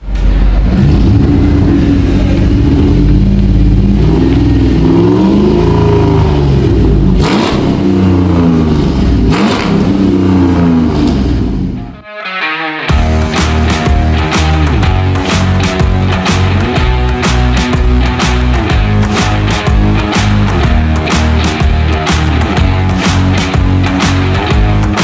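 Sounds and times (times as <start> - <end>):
car engine revving: 0.0 - 12.0, 12.9 - 25.0.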